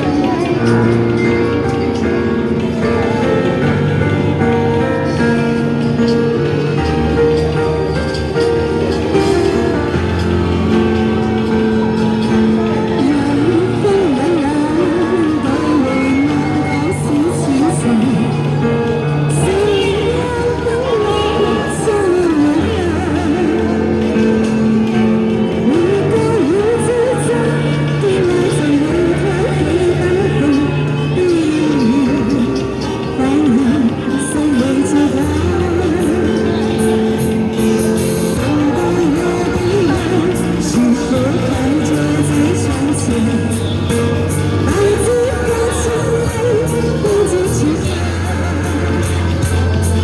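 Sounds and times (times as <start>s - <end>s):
backing track chords and bass: 0.0s - 50.0s
woman singing pop song: 0.0s - 50.0s.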